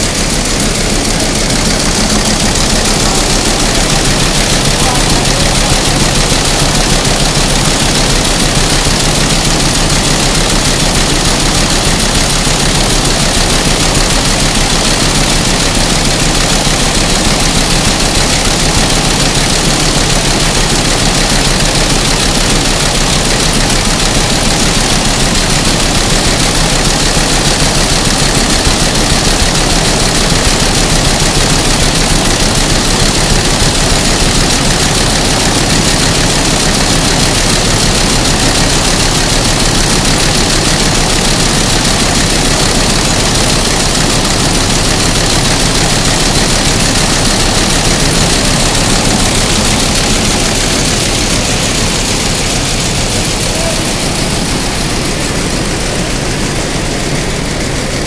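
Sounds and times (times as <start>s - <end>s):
embroidery machine clattering: 0.0s - 58.0s.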